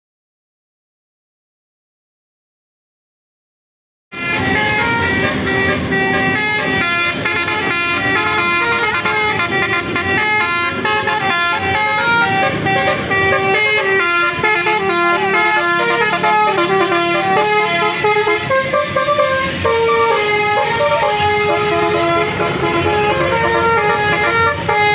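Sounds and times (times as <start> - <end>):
bus horn playing a fast melody: 4.1 - 24.9.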